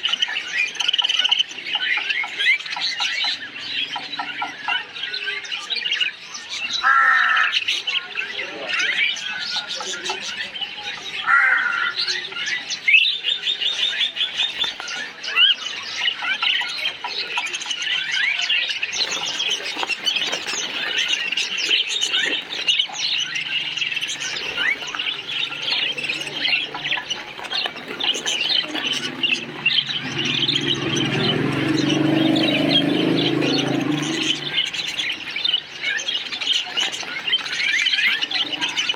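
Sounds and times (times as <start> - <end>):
parakeets chirping and squawking: 0.0 - 38.9.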